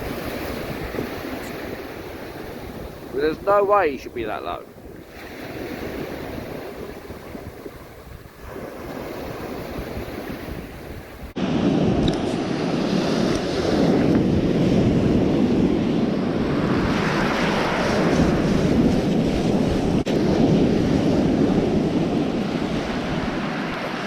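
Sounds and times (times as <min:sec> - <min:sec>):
surf breaking on shore: 0:00.0 - 0:24.0
wind buffeting microphone: 0:00.0 - 0:24.0.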